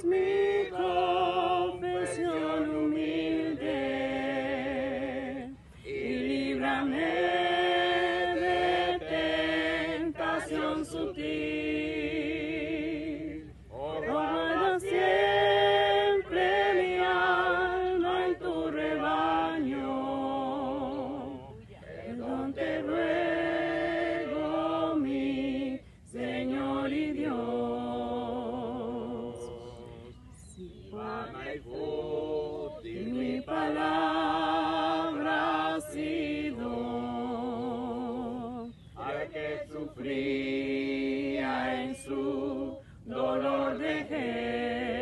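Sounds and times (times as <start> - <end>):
group singing a hymn unaccompanied: 0.0 - 45.0.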